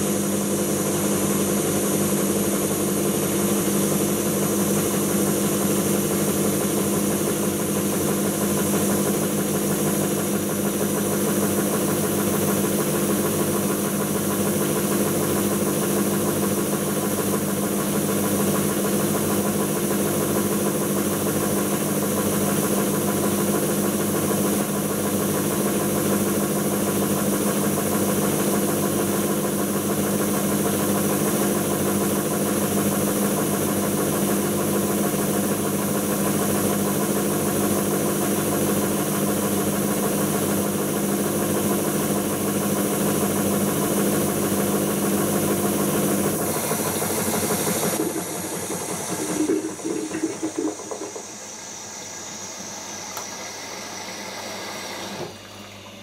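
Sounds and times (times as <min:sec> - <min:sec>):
washing machine spinning: 0:00.0 - 0:56.0.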